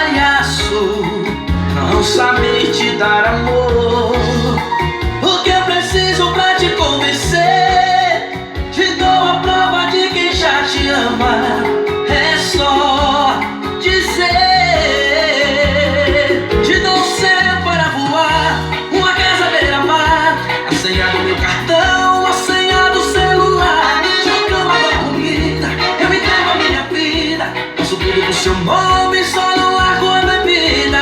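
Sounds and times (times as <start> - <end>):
person singing: 0.0 - 31.0
pounding bassline: 0.0 - 31.0
song through car sound system: 0.0 - 31.0.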